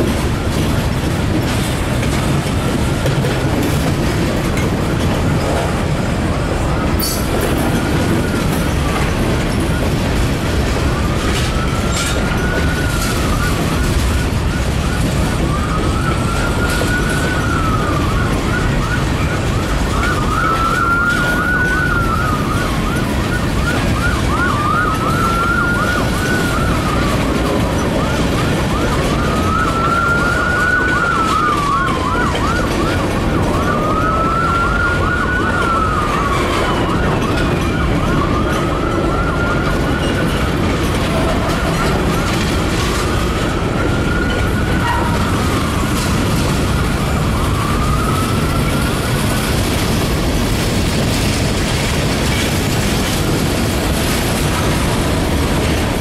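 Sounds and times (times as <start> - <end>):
freight train rumbling past: 0.0 - 56.0
siren wailing and warbling: 7.6 - 55.0.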